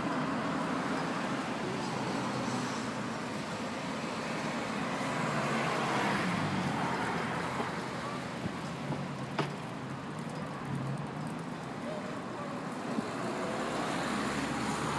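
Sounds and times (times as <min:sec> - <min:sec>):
cars driving past: 0:00.0 - 0:14.9.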